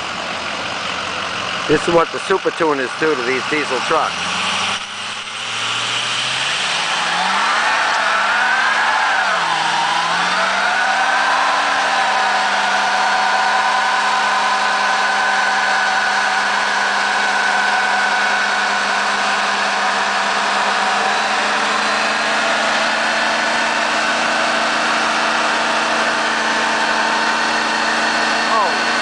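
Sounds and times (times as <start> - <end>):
diesel truck engine under load: 0.0 - 29.0
tyres spinning: 1.5 - 29.0.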